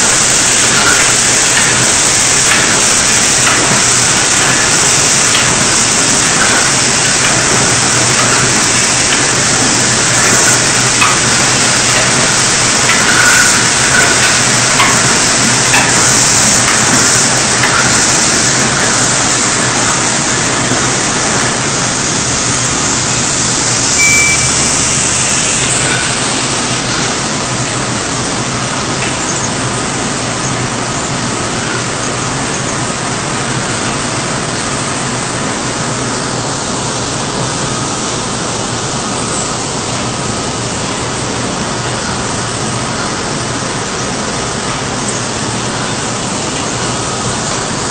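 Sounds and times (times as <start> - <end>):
low machine hum: 0.0 - 47.9
machinery hiss: 0.0 - 47.9.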